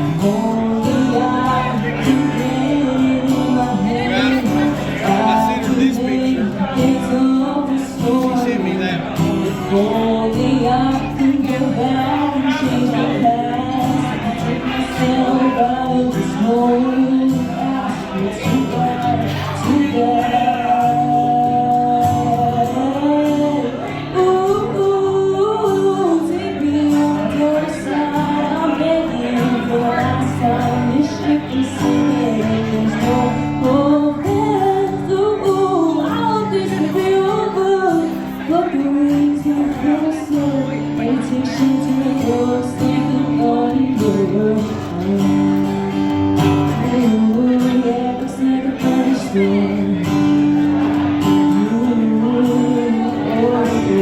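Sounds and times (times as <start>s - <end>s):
girl singing: 0.0s - 8.7s, 9.5s - 50.2s
guitar: 0.0s - 54.0s.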